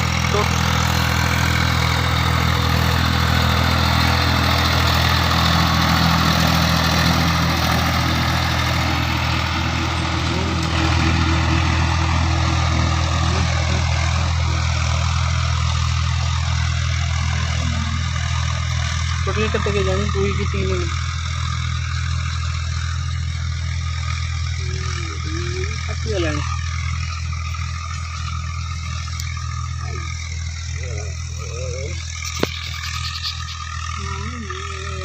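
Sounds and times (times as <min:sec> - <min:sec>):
tractor engine idling: 0:00.0 - 0:35.0.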